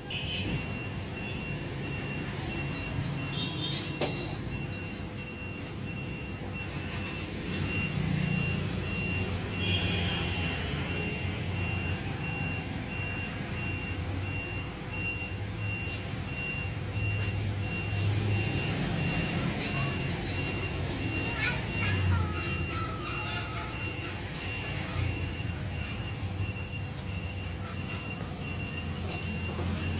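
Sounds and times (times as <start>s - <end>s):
high electronic beep: 0.0s - 29.9s.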